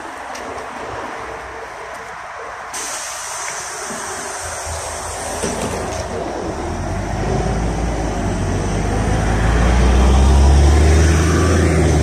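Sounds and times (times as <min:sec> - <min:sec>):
bus engine pulling away: 0:00.0 - 0:12.0.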